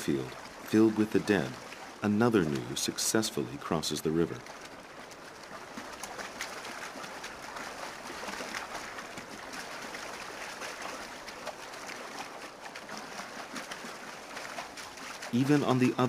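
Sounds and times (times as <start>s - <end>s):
animals splashing in water: 0.0s - 16.0s.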